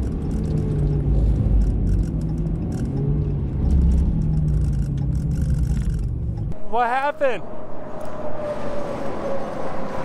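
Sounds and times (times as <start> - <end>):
engine and road drone: 0.0 - 10.0.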